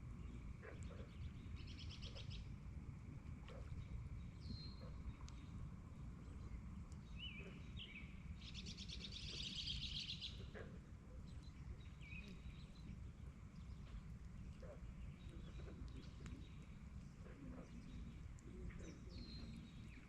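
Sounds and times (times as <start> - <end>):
faint low rumble: 0.0 - 20.0
songbirds chirping: 0.0 - 20.0.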